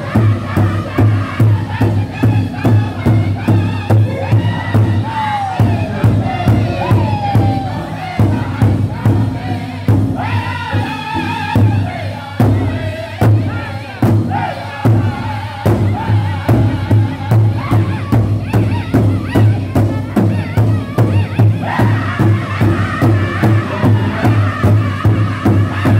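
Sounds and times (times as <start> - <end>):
group singing in high voices: 0.0 - 25.9
large drum beating: 0.0 - 25.9.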